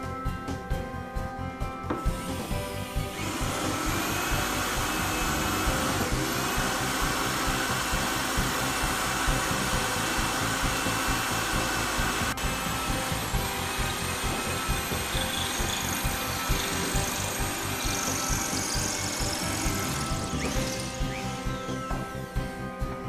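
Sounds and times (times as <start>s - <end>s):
electric drill drilling into wood: 1.9s - 22.3s.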